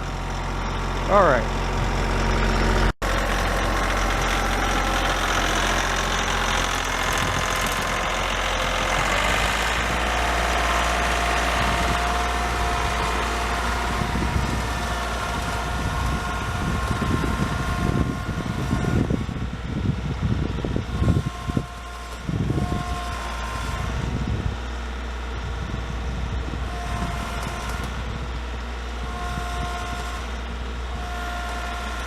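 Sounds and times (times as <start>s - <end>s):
engine whine: 0.0s - 32.0s
tractor engine running: 0.0s - 32.0s.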